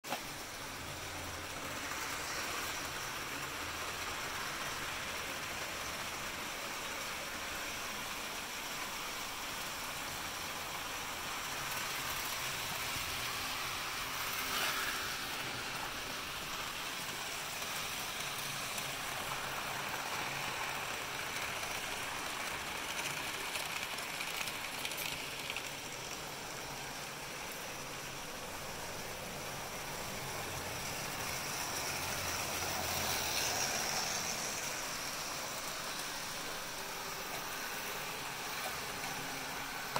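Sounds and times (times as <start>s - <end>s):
model trains whirring on track: 0.1s - 39.9s.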